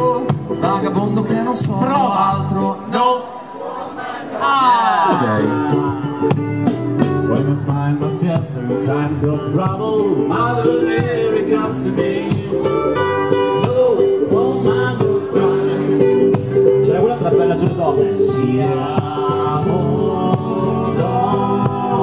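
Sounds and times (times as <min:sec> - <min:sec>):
ukuleles strumming: 0:00.0 - 0:02.6, 0:05.4 - 0:22.0
men singing: 0:00.0 - 0:06.4, 0:07.2 - 0:22.0.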